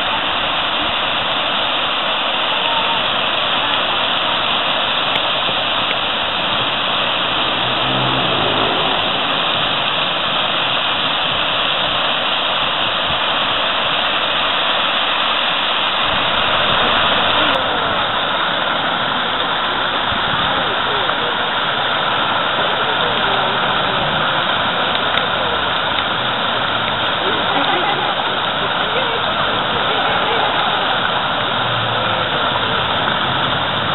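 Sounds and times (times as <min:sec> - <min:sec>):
fountain water splashing into pool: 0:00.0 - 0:33.9.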